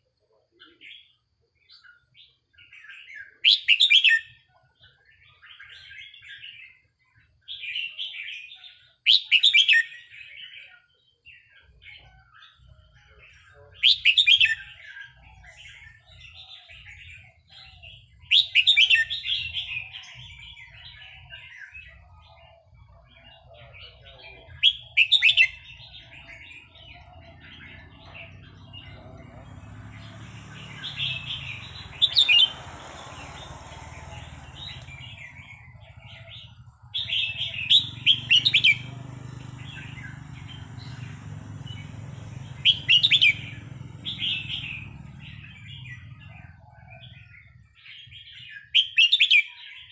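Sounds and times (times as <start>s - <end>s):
bird singing bright chirps: 0.1s - 49.9s.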